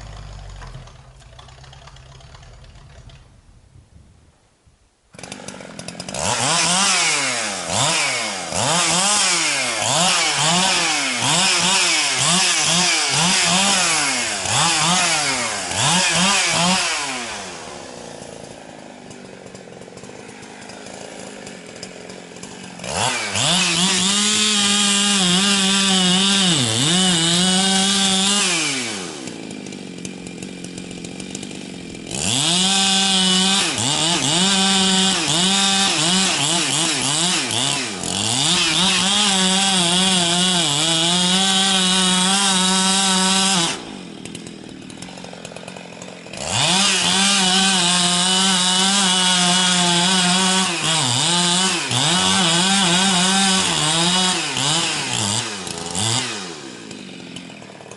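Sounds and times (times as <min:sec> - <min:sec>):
chainsaw cutting wood: 0:00.0 - 0:03.3, 0:05.1 - 0:57.9.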